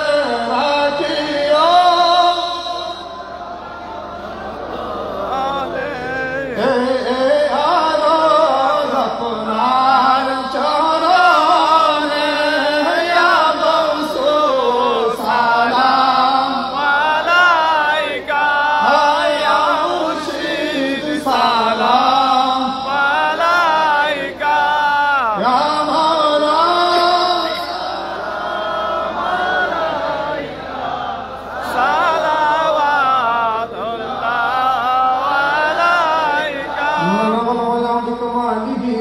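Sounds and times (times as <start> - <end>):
men chanting through microphones: 0.0 - 39.0.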